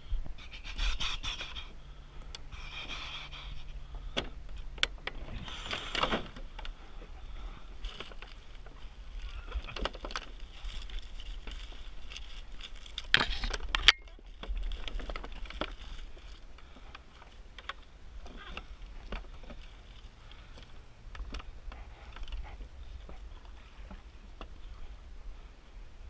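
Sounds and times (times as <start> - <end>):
twigs and grass rustling: 0.2 - 26.0.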